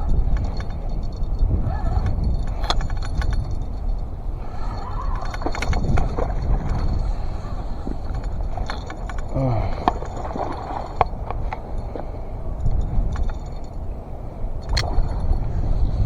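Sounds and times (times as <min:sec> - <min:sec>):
small bell jingling: 0:00.0 - 0:16.0
wind buffeting microphone: 0:00.0 - 0:16.0.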